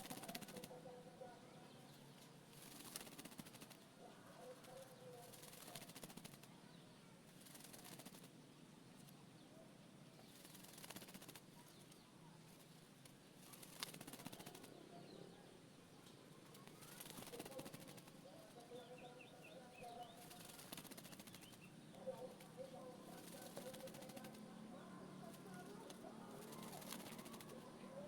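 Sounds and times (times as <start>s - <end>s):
bird wingbeats fluttering: 0.0s - 9.2s, 10.2s - 15.4s, 16.0s - 28.0s.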